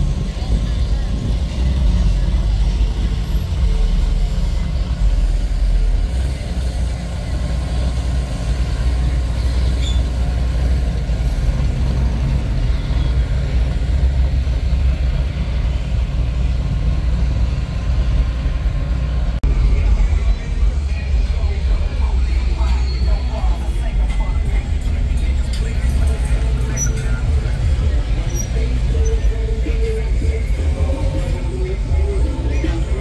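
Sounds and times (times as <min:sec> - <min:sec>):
pickup truck rumbling past: 0:00.0 - 0:33.0.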